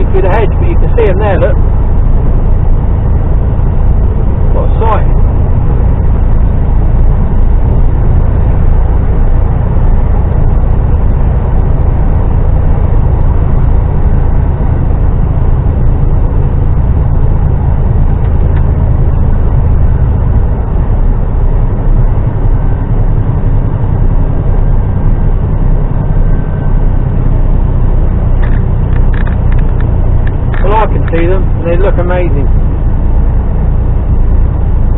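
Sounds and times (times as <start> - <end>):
diesel engine drone: 0.0 - 34.9
road noise: 0.0 - 34.9.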